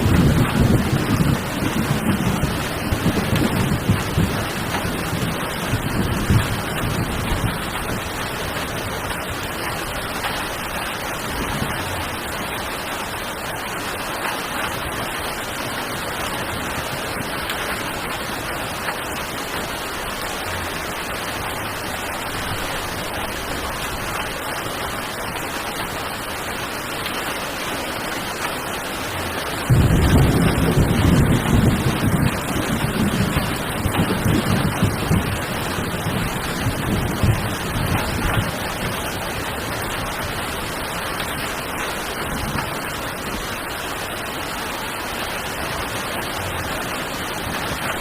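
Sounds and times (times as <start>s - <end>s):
heavy rain hissing: 0.0s - 48.0s.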